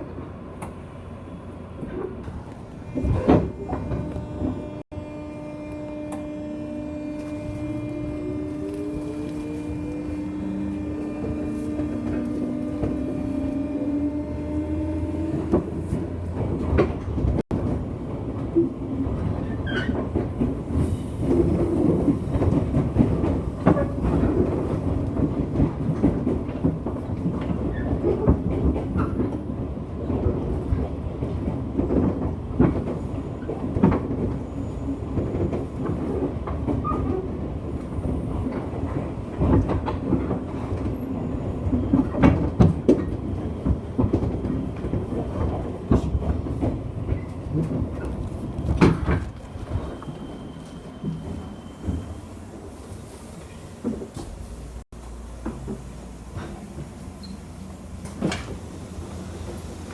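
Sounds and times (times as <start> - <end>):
train wheels rumbling on rail: 0.0 - 59.9
rail joint clacks: 7.2 - 52.2, 55.4 - 59.9.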